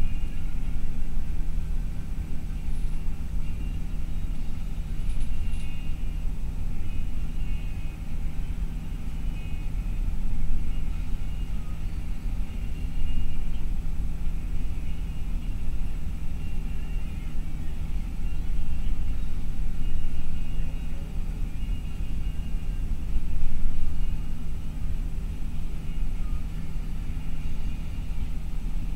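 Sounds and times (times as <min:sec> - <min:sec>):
bus engine and tyres rumbling: 0:00.0 - 0:28.9
constant low hum: 0:00.0 - 0:28.9.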